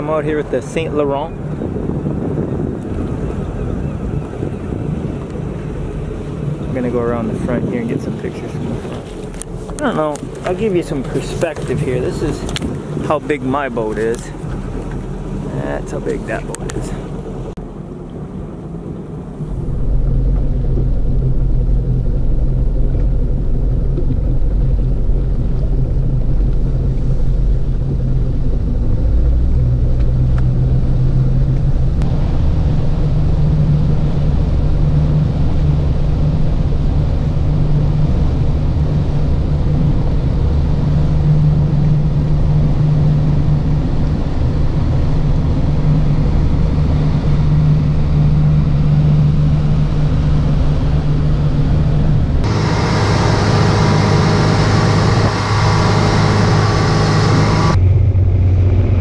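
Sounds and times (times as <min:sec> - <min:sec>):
motorboat engine running: 0:00.0 - 0:59.0.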